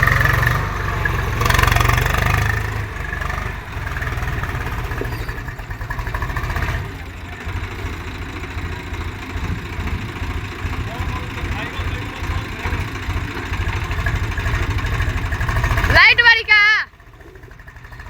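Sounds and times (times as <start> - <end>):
tractor engine chugging idle: 0.0 - 18.0.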